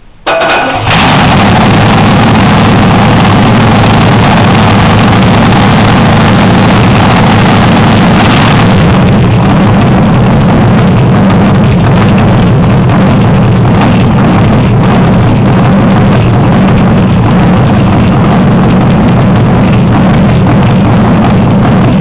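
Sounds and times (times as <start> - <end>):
car engine rumbling steadily: 0.0 - 22.0.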